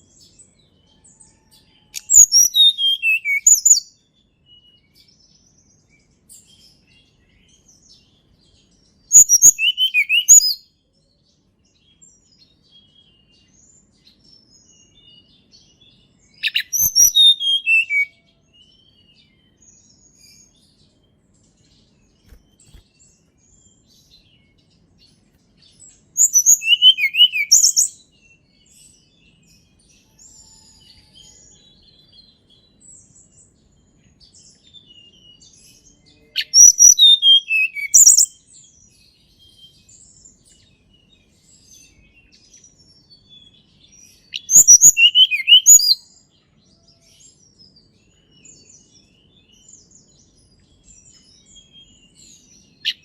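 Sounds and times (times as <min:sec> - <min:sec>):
bird song bursts: 0:00.0 - 0:53.0.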